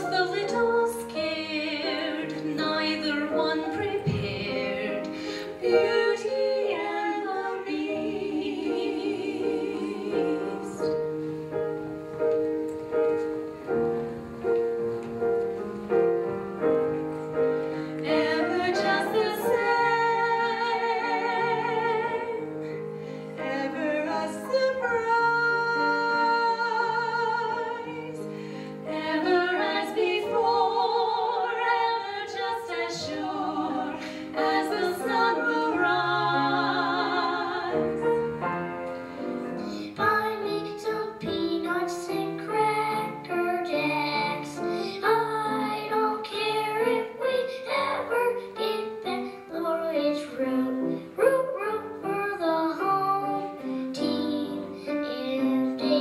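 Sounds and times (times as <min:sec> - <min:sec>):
women singing a duet: 0:00.0 - 0:11.0, 0:18.0 - 0:22.8, 0:23.4 - 0:38.2, 0:39.9 - 0:56.0
grand piano playing chords: 0:00.0 - 0:56.0.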